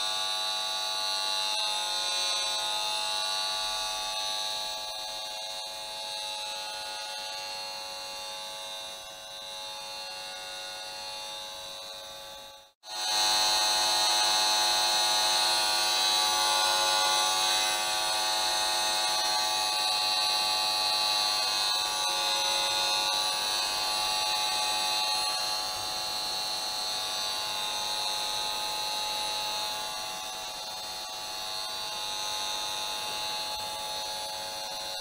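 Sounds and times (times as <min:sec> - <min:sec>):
electric buzz from meter speaker: 0:00.0 - 0:35.0.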